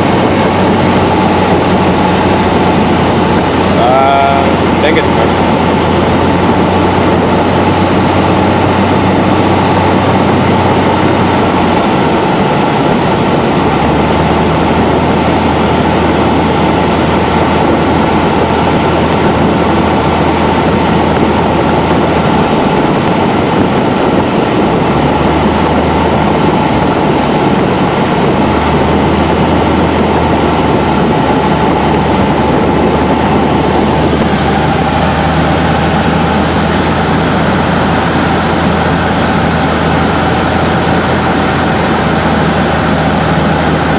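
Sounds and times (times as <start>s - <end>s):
airplane engine drone in cabin: 0.0s - 43.9s.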